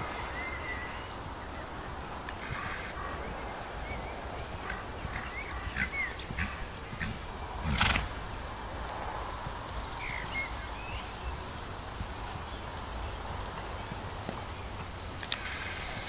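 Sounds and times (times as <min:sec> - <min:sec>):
hoofbeats on sand: 0:02.4 - 0:16.0.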